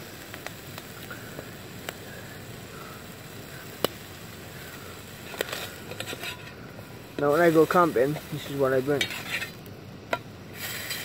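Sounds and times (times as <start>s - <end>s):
bacon sizzling in a frying pan: 0.0s - 11.0s.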